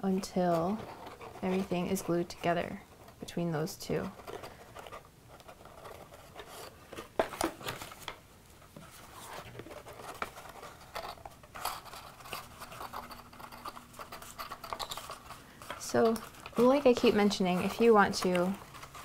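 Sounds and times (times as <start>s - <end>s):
cardstock rustling and creasing: 0.1s - 19.0s.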